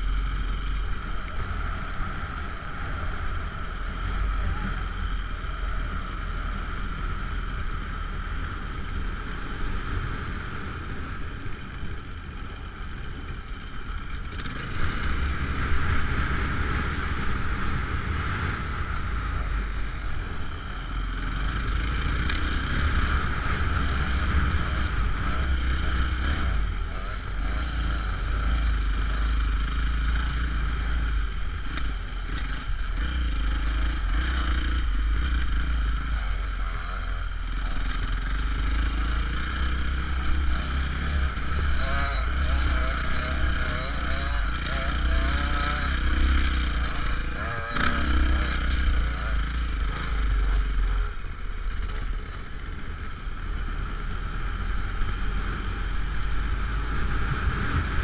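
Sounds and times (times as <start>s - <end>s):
dirt bike engine running: 0.0s - 58.0s.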